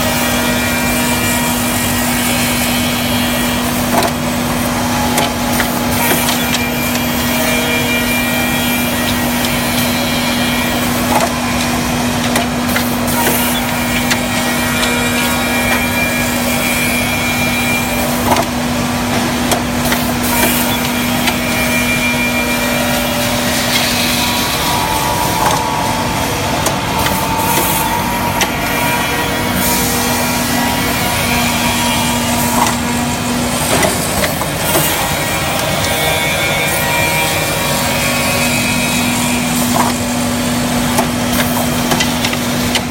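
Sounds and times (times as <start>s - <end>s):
constant hum: 0.0s - 42.9s
woodworking machine running: 0.0s - 42.9s.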